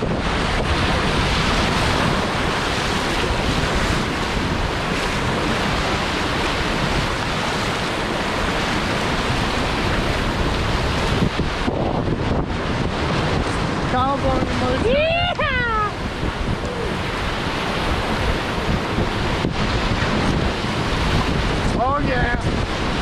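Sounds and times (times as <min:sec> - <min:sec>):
water washing: 0:00.0 - 0:23.0
wind buffeting microphone: 0:00.0 - 0:23.0.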